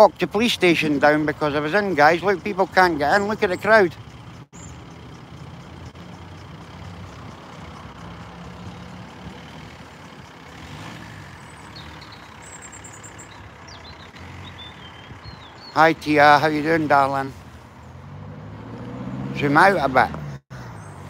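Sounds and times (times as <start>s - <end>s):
vehicle engine idling: 0.0s - 18.2s, 19.0s - 21.0s
street background noise: 0.0s - 21.0s.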